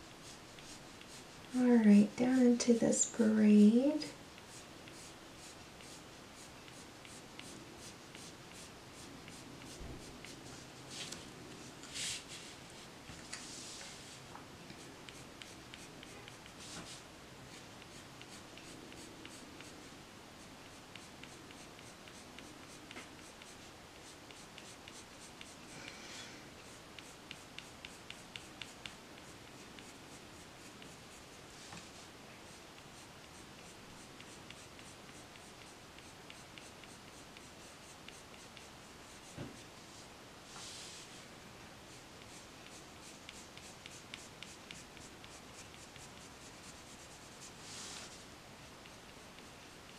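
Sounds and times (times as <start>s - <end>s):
colored pencil scratching on paper: 0.0s - 12.8s, 13.4s - 25.8s, 26.6s - 41.2s, 41.9s - 48.2s, 48.8s - 49.9s.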